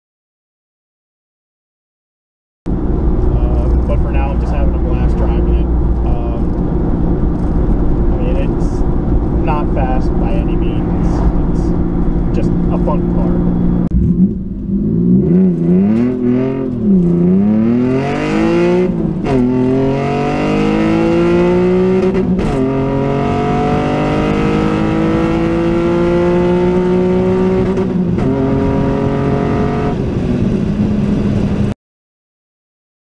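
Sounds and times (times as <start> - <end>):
car engine accelerating: 2.7 - 31.7.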